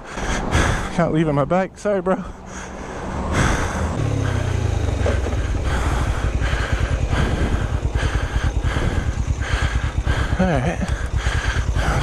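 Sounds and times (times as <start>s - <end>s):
motorcycle engine idling: 2.2s - 12.0s.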